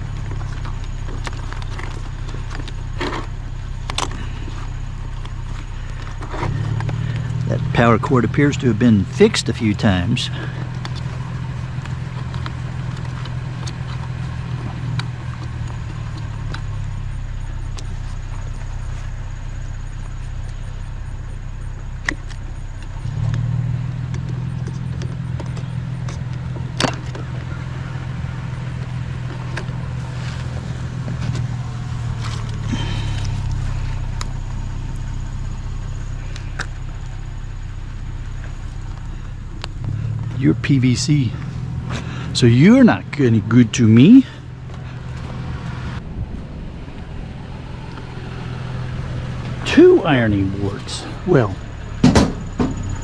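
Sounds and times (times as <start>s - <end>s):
vehicle engine and road noise: 0.0s - 53.0s.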